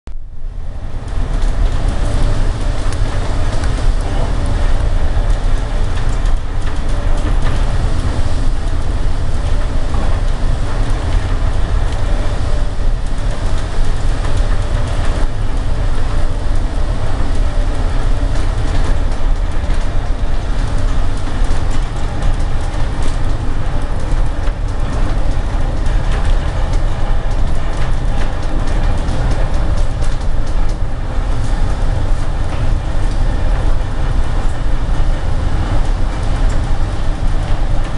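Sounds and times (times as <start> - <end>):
wind buffeting microphone: 0.4 - 37.9.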